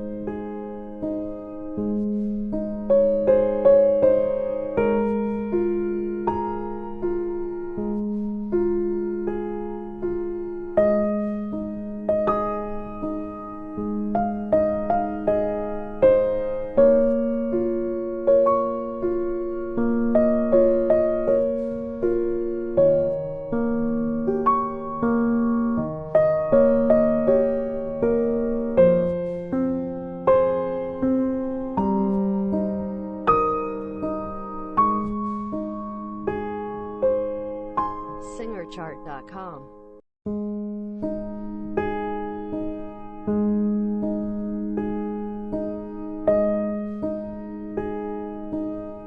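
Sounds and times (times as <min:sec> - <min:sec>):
slow gentle piano music: 0:00.0 - 0:49.0.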